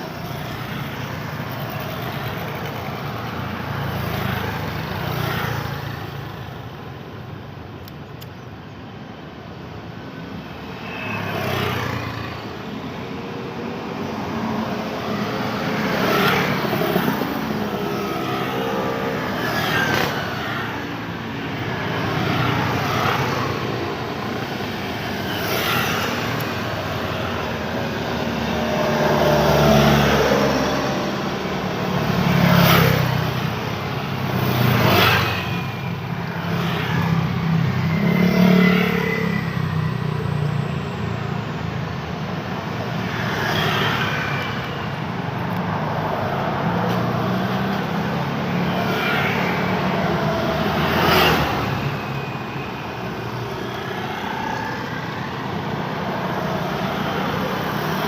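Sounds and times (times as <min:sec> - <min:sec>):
cars and motorbikes passing: 0:00.0 - 0:58.0.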